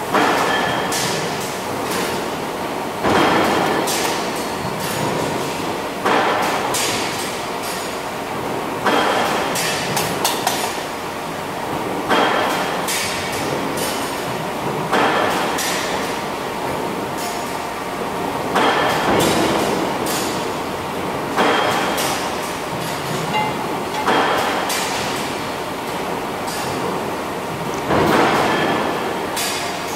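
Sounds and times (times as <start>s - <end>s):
factory noise: 0.0s - 29.9s.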